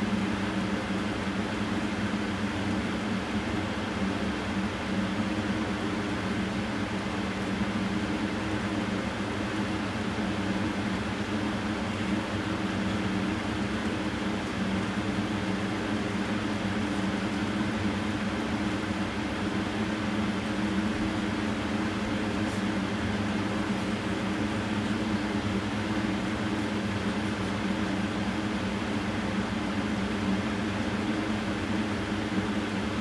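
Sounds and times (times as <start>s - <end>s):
mechanical hum and hiss: 0.0s - 33.0s.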